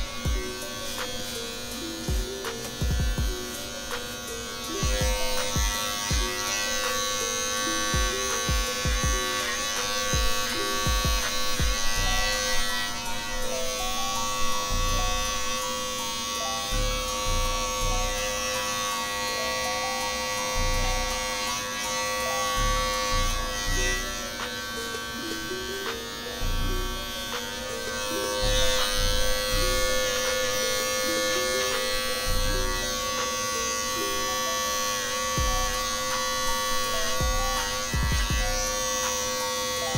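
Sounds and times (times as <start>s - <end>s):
background music with beat: 0.0s - 39.9s
hair clippers humming: 0.0s - 39.9s.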